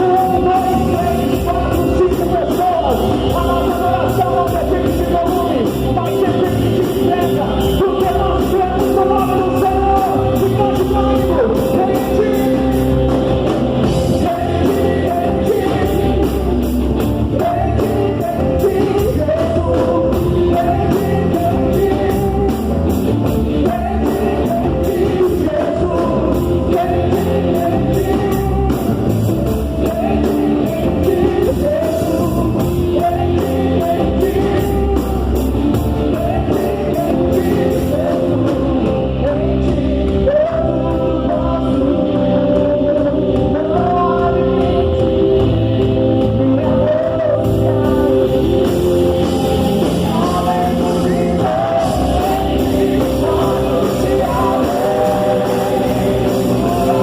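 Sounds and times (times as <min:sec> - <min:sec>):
steady drum beat: 0:00.0 - 0:41.6, 0:47.4 - 0:57.0
person singing: 0:00.0 - 0:57.0
rock-style worship band: 0:00.0 - 0:57.0.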